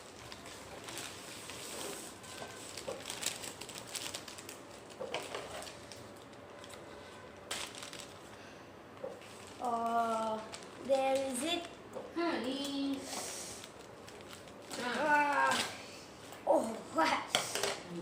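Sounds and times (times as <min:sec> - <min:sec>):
packaging rustling and crinkling: 0:00.0 - 0:08.4, 0:09.0 - 0:11.9, 0:12.5 - 0:16.4.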